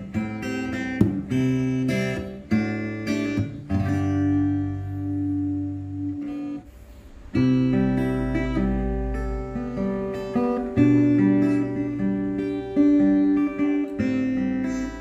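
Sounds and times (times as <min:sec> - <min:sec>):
clean electric guitar chords: 0:00.0 - 0:06.7, 0:07.3 - 0:15.0.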